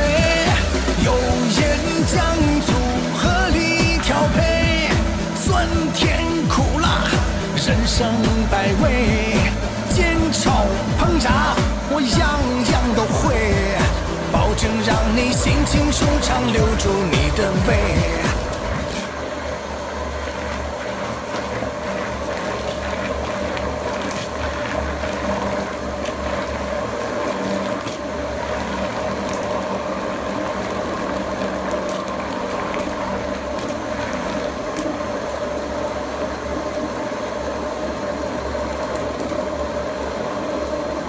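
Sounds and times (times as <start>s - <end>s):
food mixer motor humming: 0.0s - 33.4s.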